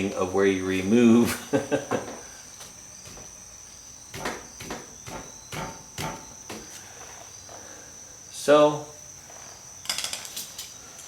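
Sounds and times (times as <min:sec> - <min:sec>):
steady high-pitched whine: 0:00.0 - 0:11.0.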